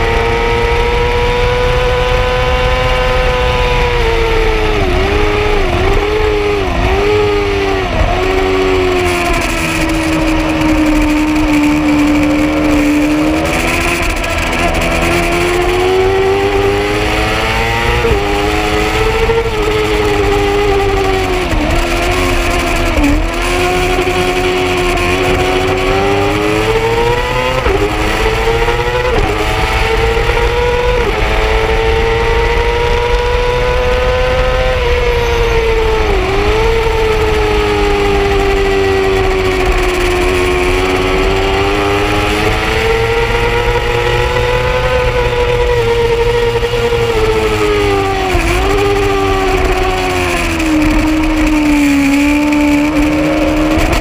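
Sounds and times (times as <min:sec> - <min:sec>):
motorcycle engine revving high: 0:00.0 - 0:54.0.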